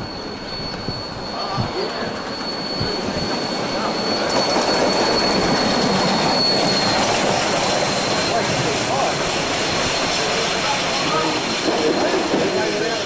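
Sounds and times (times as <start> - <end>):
train running gear rumble: 0.0 - 13.0
train wheel squeal: 0.0 - 13.0.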